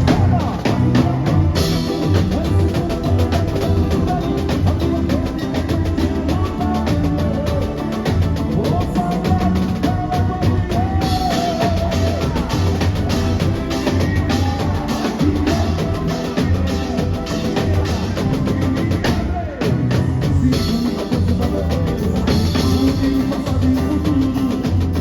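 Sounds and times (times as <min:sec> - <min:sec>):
deep bass drum beat: 0:00.0 - 0:25.0
pitched melody: 0:00.0 - 0:25.0
samba drumming: 0:00.0 - 0:25.0.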